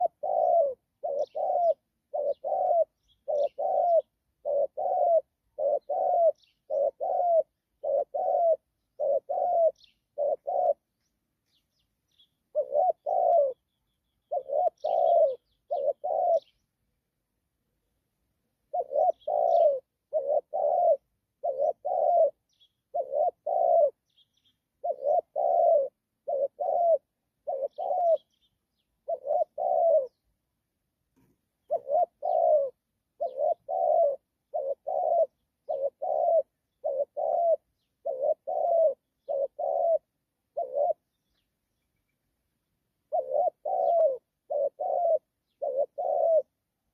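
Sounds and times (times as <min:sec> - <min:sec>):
dove cooing: 0:00.0 - 0:16.7, 0:18.5 - 0:30.4, 0:31.2 - 0:41.8, 0:42.9 - 0:46.9
small birds chirping: 0:00.0 - 0:17.1, 0:18.6 - 0:46.9.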